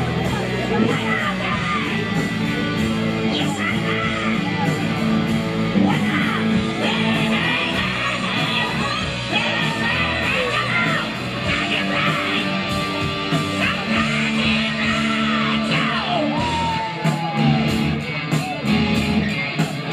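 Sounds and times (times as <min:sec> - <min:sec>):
audience yelling: 0:00.0 - 0:19.9
live rock band playing: 0:00.0 - 0:19.9.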